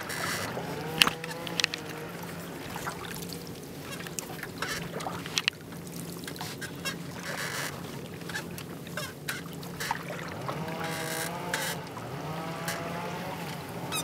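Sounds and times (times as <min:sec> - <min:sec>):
steady low hum: 0:00.0 - 0:13.9
kayak paddle splashing: 0:00.0 - 0:14.0
water dripping from paddle: 0:00.0 - 0:14.0.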